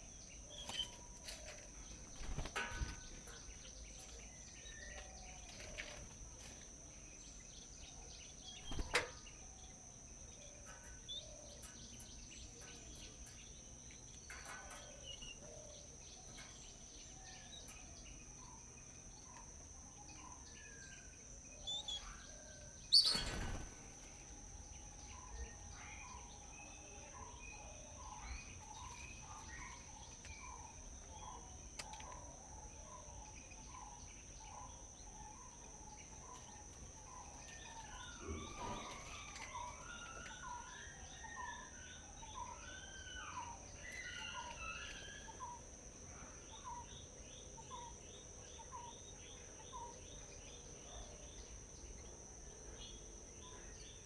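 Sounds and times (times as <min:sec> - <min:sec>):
birds chirping: 0:00.0 - 0:54.0
high insect drone: 0:00.0 - 0:54.0.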